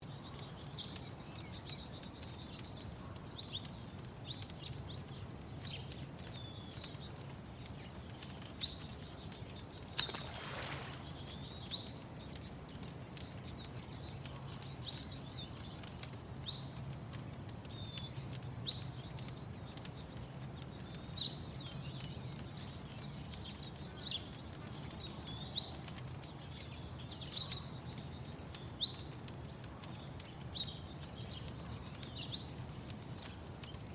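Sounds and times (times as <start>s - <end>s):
faint fire crackles: 0.0s - 33.9s
small birds chirping: 0.0s - 33.9s.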